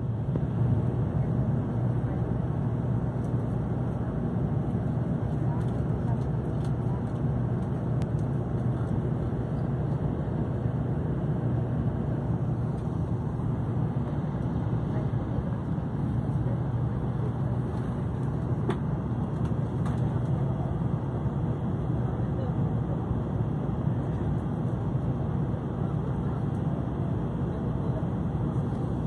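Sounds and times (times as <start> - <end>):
train rumble inside cabin: 0.0 - 29.0.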